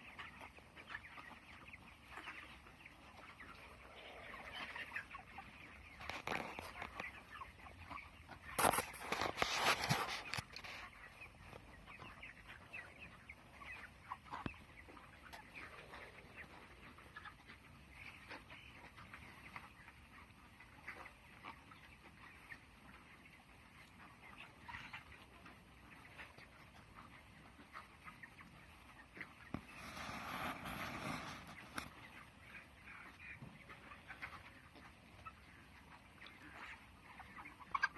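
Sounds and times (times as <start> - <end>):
chickens peeping and clucking: 0.0 - 37.9.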